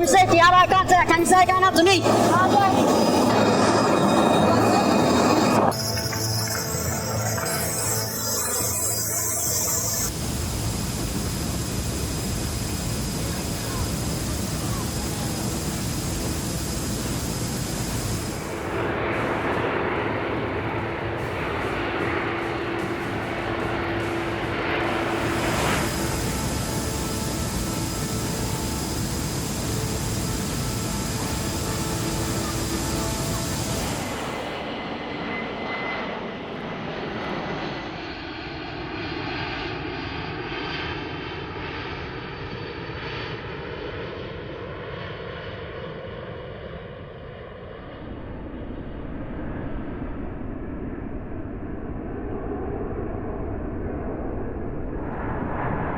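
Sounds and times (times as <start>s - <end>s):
aircraft rushing noise: 0.0s - 41.4s, 47.8s - 55.9s
aircraft engine drone: 0.0s - 55.9s.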